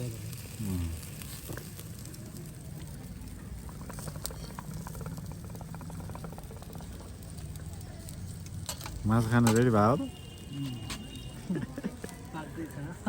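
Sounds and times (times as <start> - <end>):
meat sizzling over fire: 0.0 - 13.0.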